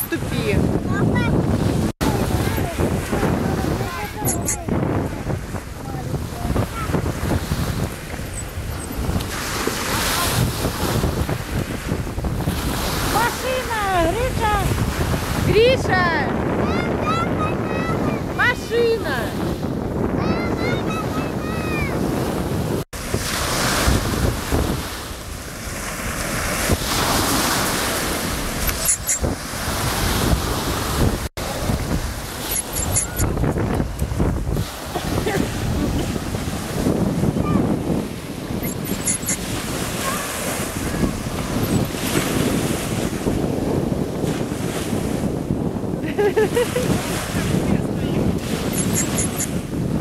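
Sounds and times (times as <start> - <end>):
sea surf: 0.0 - 50.0
small waves breaking on shore: 0.0 - 50.0
wind gusting across microphone: 0.0 - 50.0.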